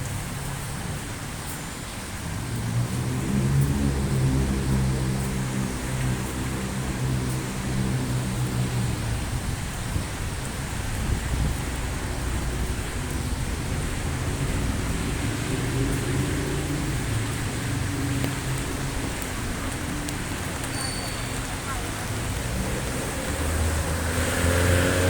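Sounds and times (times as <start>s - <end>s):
low engine hum: 0.0s - 20.7s, 21.4s - 25.0s
heavy rain: 0.0s - 25.0s.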